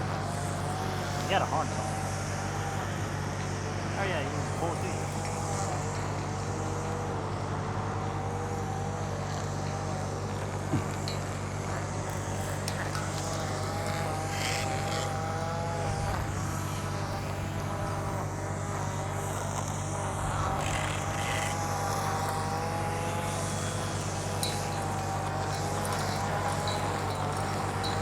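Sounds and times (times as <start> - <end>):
high wavering whine: 0.0 - 28.0
lift engine running: 0.0 - 28.0.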